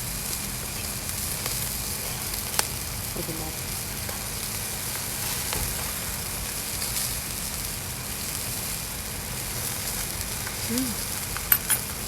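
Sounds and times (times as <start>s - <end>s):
chicken skewers sizzling: 0.0s - 12.0s.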